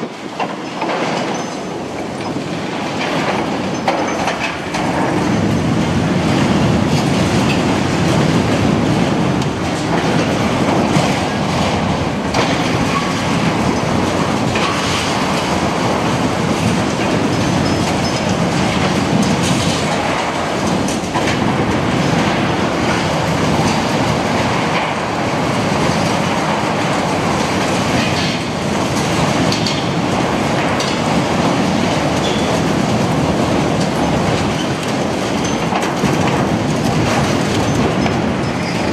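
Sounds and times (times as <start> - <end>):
excavator running under load: 0.0 - 38.9.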